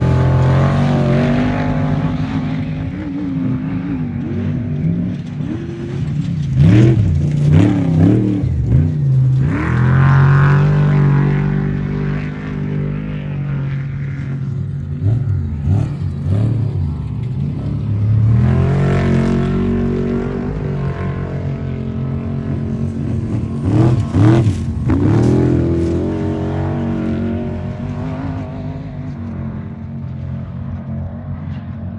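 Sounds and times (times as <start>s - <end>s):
truck engines revving: 0.0s - 31.9s.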